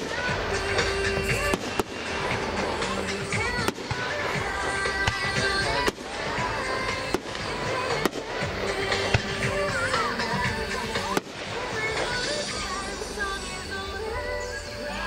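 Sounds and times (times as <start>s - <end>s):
fireworks bangs: 0.0s - 13.9s
fireworks crackle and rumble: 0.0s - 14.8s.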